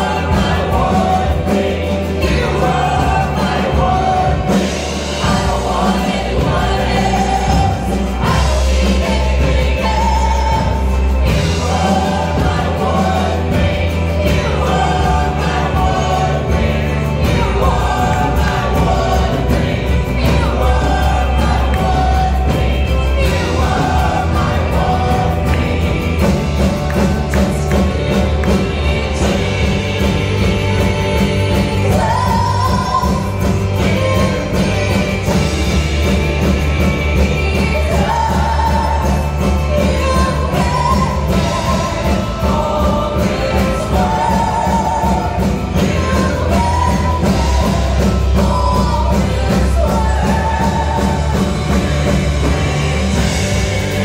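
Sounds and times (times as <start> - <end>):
bass line: 0.0 - 54.0
drums: 0.0 - 54.0
keyboard: 0.0 - 54.0
voices singing together: 0.0 - 54.0.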